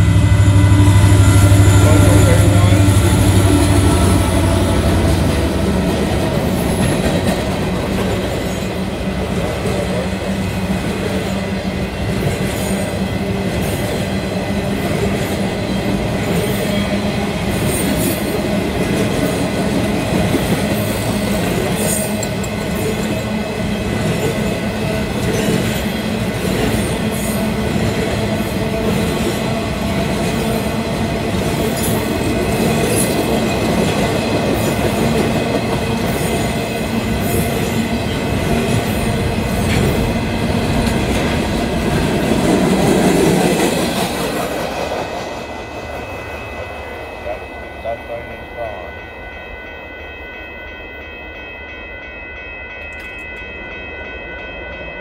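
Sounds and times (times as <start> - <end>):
train wheel rumble: 0.0 - 47.4
diesel locomotive engine drone: 0.0 - 50.6.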